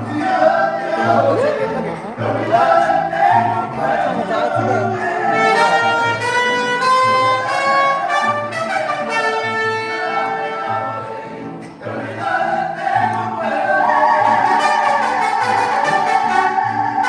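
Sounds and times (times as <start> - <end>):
brass band music: 1.8 - 11.4, 12.2 - 17.0.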